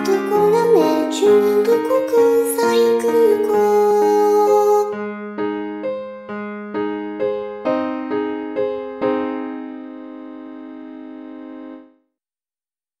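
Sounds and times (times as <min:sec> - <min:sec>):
piano notes and chord: 0:00.0 - 0:12.0.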